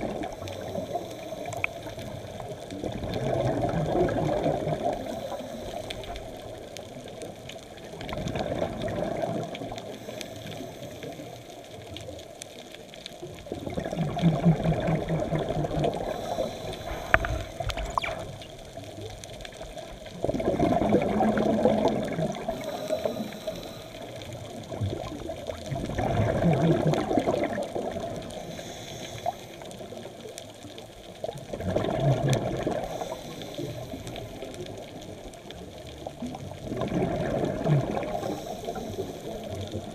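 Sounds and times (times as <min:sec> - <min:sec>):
exhaled bubbles underwater: 0:00.0 - 0:39.9
steady water hiss: 0:00.0 - 0:39.9.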